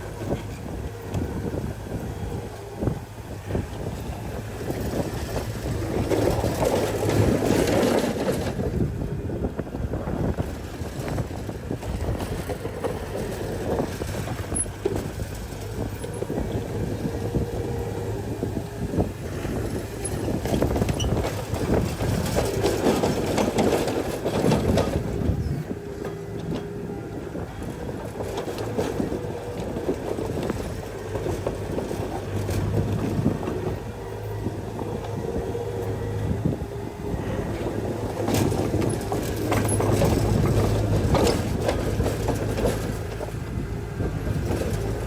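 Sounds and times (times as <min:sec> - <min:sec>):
earthmoving diesel engine working: 0:00.0 - 0:45.0.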